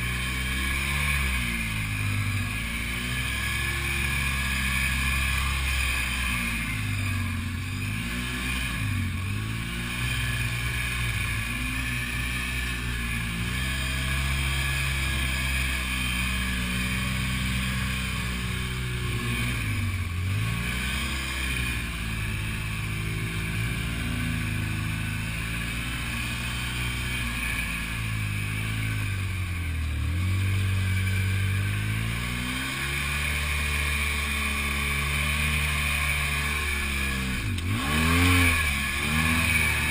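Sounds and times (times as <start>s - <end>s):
buggy engine revving: 0.0s - 39.9s.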